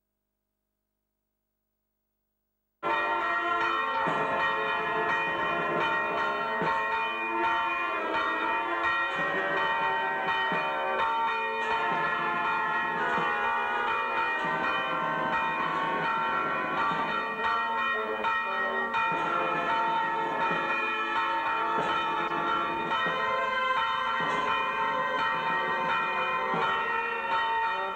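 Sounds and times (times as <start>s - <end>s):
church bells pealing: 2.8s - 27.9s.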